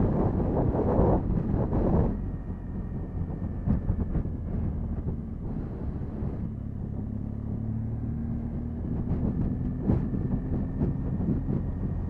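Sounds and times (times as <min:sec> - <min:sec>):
motorcycle engine running: 0:00.0 - 0:12.0
road and wind noise: 0:00.0 - 0:12.0
wind gust on microphone: 0:00.0 - 0:12.0.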